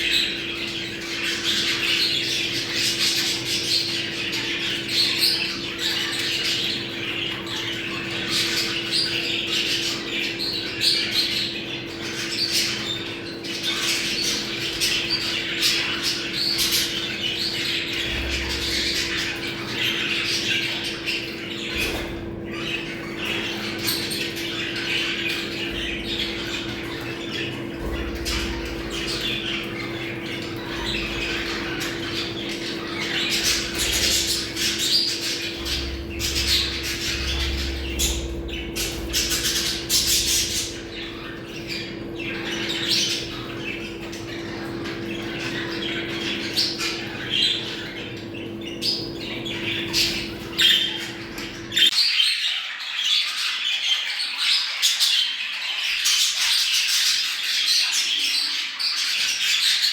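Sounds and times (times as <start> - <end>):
steady low hum: 0.0 - 51.9
budgerigars chattering: 0.0 - 59.9.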